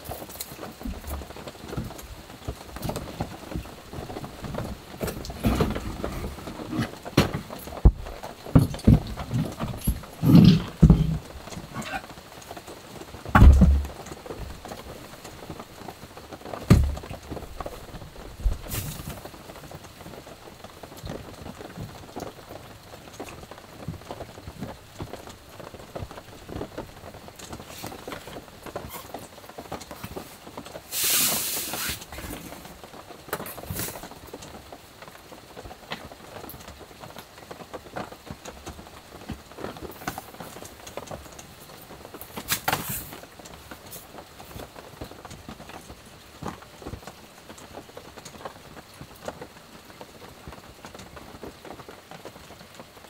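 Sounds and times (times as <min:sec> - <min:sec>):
heavy rain on a roof: 0:00.0 - 0:53.0.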